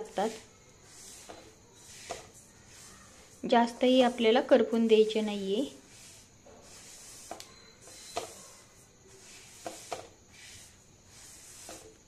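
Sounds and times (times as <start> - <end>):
seeds rustling in metal pan: 0.0 - 12.0.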